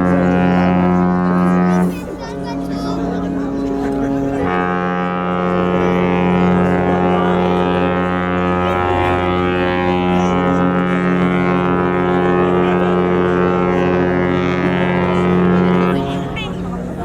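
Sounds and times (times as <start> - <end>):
ship horn blast: 0.0 - 17.0.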